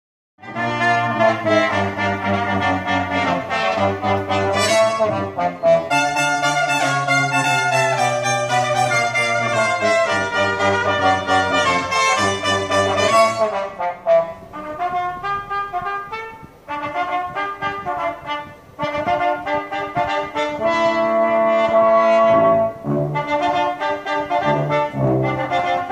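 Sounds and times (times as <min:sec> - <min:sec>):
brass band music over speakers: 0:00.4 - 0:25.9.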